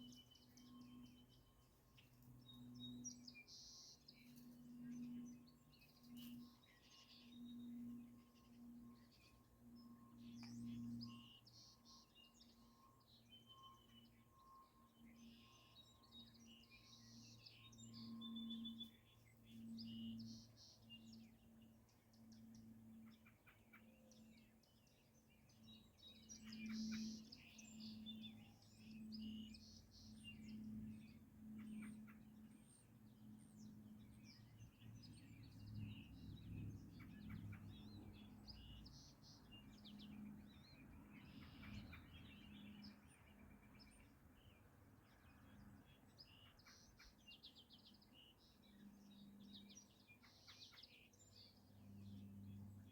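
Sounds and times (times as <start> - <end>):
birds chirping and trilling: 0.0 - 52.9
low pulsing hum: 0.0 - 52.9.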